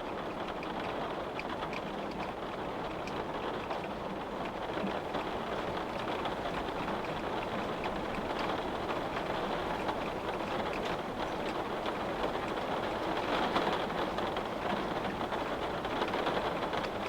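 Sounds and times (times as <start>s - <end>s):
rain pattering on a window: 0.0s - 17.0s.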